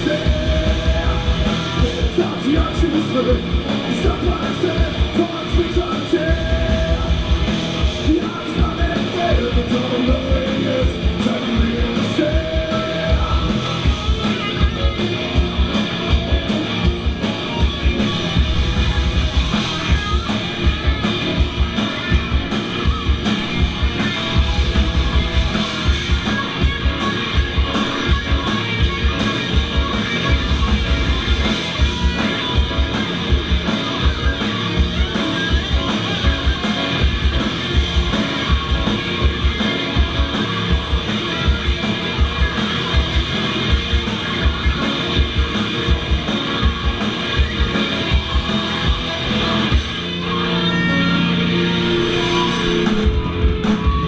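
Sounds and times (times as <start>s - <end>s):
distorted electric guitars: 0.0s - 54.0s
keyboard: 0.0s - 54.0s.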